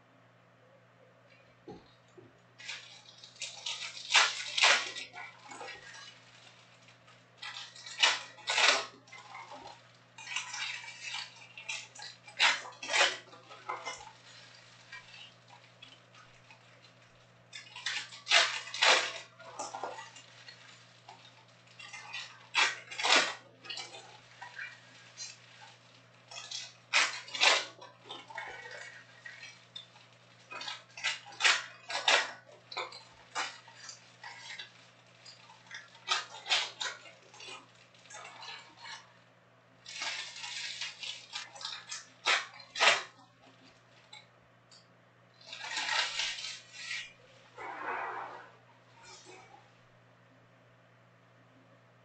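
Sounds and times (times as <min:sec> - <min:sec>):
low electrical hum: 0:00.0 - 0:52.0
foil wrapper crinkling: 0:02.6 - 0:39.2, 0:39.8 - 0:44.3, 0:45.4 - 0:47.6.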